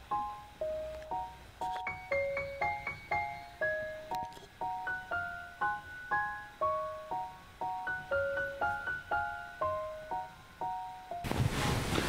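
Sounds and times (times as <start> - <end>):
bell-like keyboard melody: 0.0 - 11.2.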